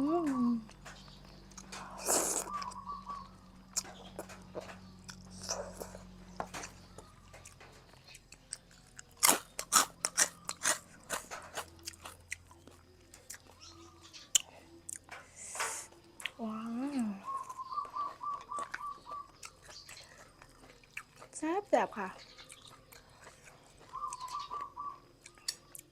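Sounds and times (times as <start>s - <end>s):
close chewing: 0.2s - 25.9s.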